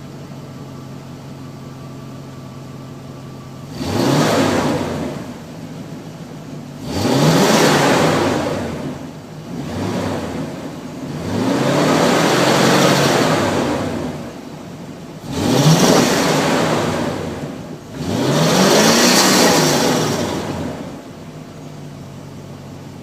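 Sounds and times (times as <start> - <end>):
car engine revving: 3.0 - 23.0.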